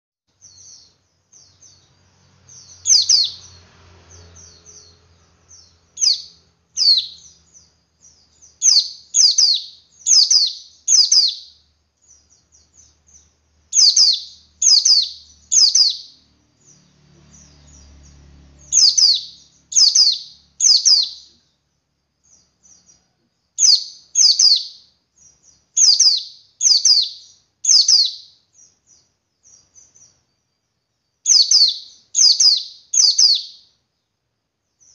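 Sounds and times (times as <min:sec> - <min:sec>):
bird chirps: 0:00.3 - 0:34.9
soft rapid bird twittering: 0:00.3 - 0:34.9.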